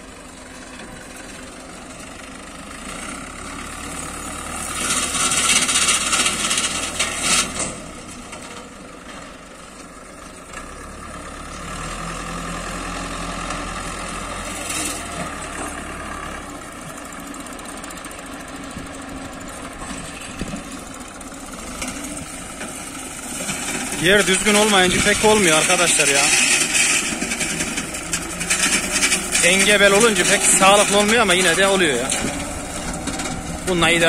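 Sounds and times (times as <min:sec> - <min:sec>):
mower cutting dry grass: 0:00.0 - 0:34.0
tractor diesel engine running: 0:00.0 - 0:34.0.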